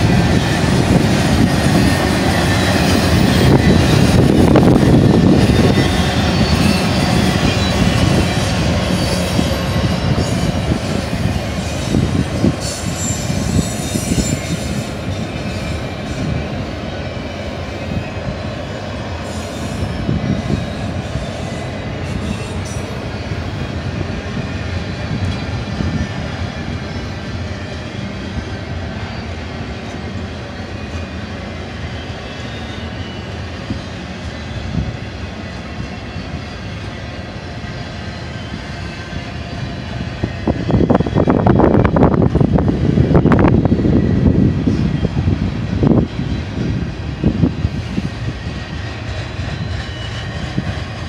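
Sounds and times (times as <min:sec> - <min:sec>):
rail wheel noise: 0:00.0 - 0:51.0
train cars rolling past: 0:00.0 - 0:51.0.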